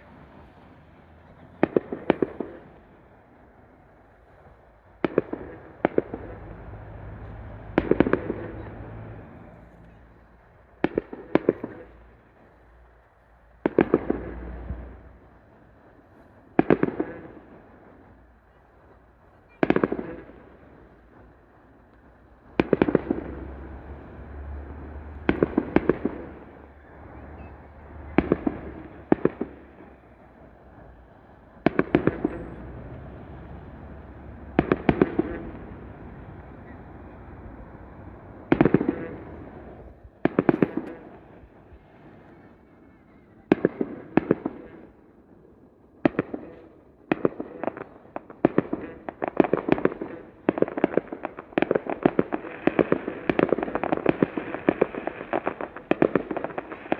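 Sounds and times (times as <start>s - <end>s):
fireworks bursting with rumble: 0.0s - 56.9s.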